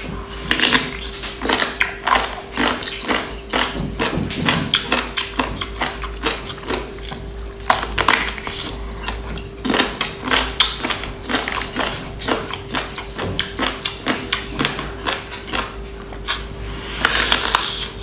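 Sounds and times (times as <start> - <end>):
faint steady hum: 0.0 - 18.0
person chewing and lip-smacking: 0.0 - 18.0.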